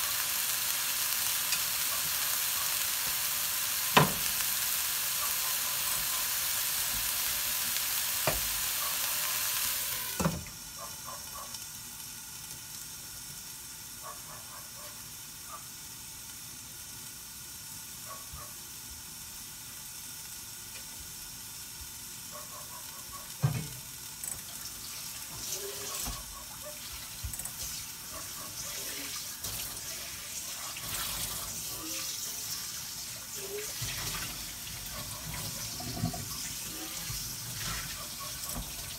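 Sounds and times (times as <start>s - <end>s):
bean sprouts sizzling in pan: 0.0s - 38.9s.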